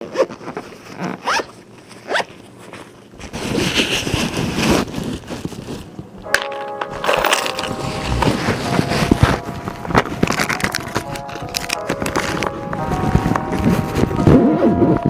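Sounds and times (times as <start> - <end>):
rustling scraping noise: 0.0 - 14.4.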